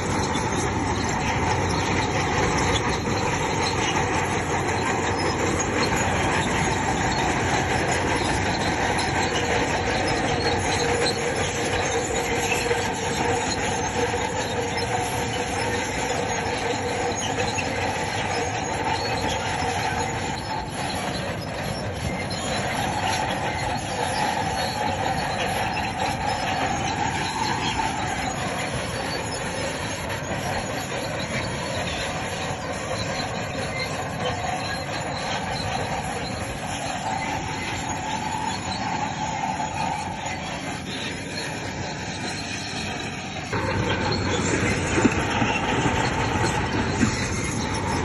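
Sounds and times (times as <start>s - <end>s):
diesel engine running: 0.0s - 48.0s
steel tracks squealing and clanking: 0.0s - 48.0s.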